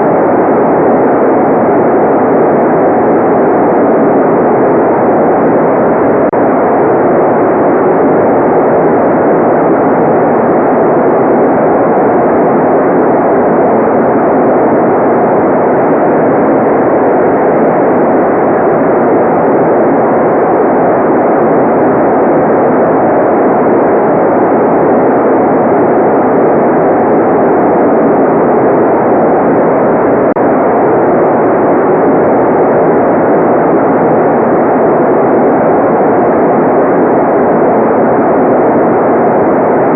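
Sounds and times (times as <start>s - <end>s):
muffled white noise: 0.0s - 39.9s.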